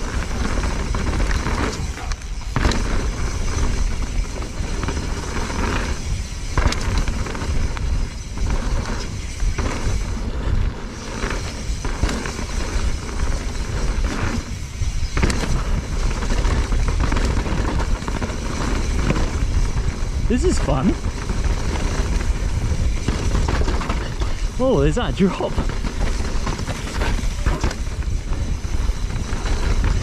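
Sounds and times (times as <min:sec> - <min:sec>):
bike rattling over bumps: 0:00.0 - 0:30.0
tyres rolling over dirt trail: 0:00.0 - 0:30.0
wind buffeting microphone: 0:00.0 - 0:30.0.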